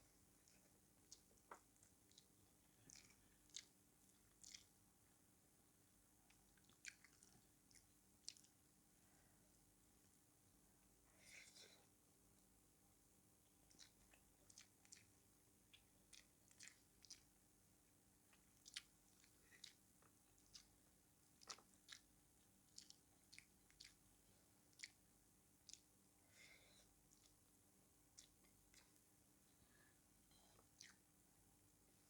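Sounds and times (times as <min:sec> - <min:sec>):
faint chewing mouth sound: 0:00.0 - 0:05.1, 0:06.2 - 0:09.6, 0:13.4 - 0:32.0.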